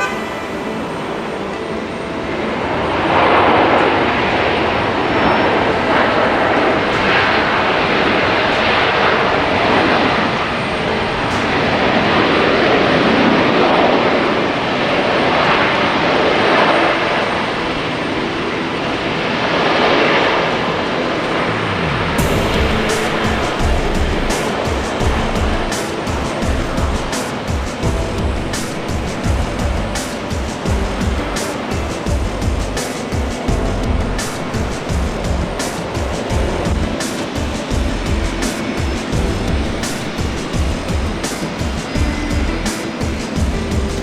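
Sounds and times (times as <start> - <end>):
jet engine roar: 0.0 - 44.0.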